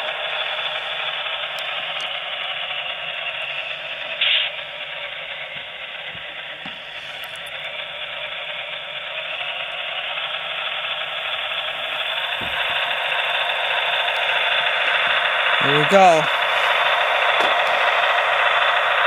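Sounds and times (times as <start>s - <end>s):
model locomotive engine sound from speaker: 0.0s - 19.0s
model motor and gear whir: 0.1s - 19.0s.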